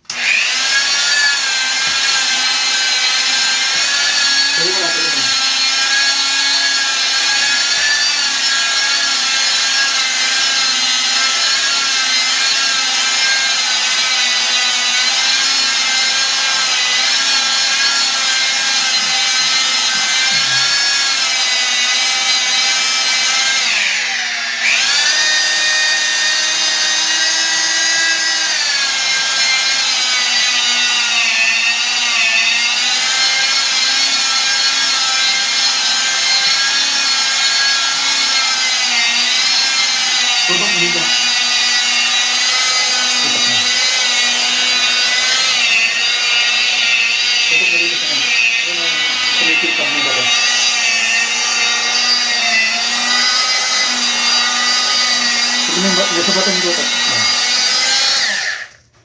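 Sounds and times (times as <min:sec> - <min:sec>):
electric polisher grinding marble: 0:00.0 - 0:58.9.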